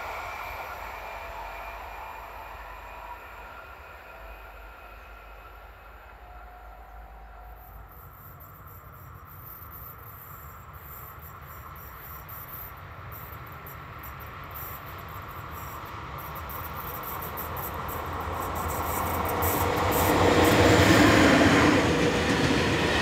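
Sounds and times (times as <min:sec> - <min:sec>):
crickets chirping: 0:00.0 - 0:23.0
distant train rumble: 0:00.0 - 0:23.0
electric train whine: 0:00.0 - 0:23.0.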